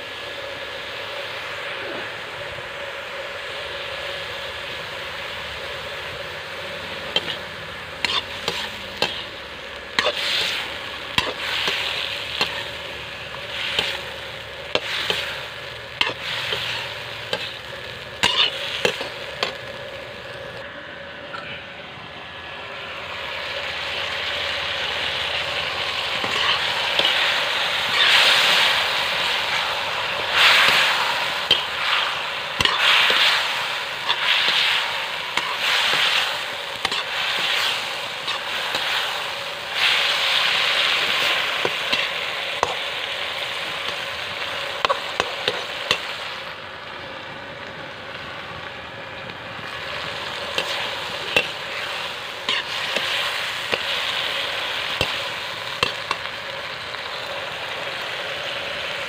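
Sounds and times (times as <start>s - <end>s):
food sizzling in a wok: 0.0s - 20.7s, 22.1s - 59.0s.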